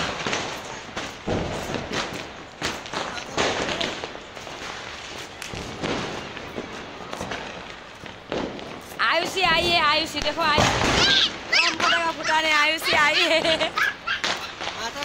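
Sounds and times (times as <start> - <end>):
firecrackers bangs and crackles: 0.0 - 15.0.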